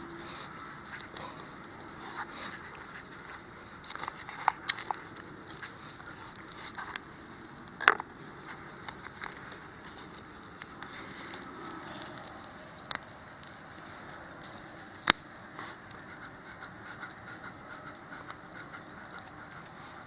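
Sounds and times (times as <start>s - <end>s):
faint steady hiss: 0.0s - 20.0s
wood fire crackling and popping: 0.0s - 20.0s.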